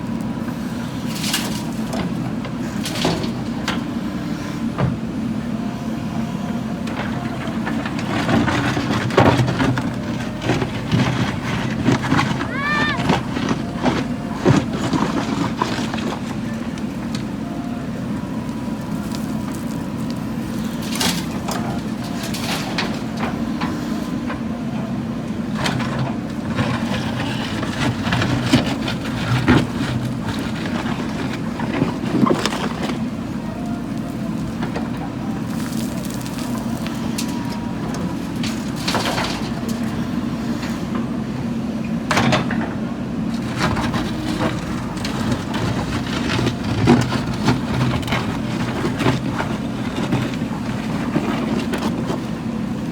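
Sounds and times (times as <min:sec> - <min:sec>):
diesel engine running under load: 0:00.0 - 0:52.9
bucket crunching and clattering soil: 0:01.0 - 0:03.9, 0:06.9 - 0:17.4, 0:18.0 - 0:24.4, 0:25.4 - 0:41.0, 0:42.2 - 0:52.9.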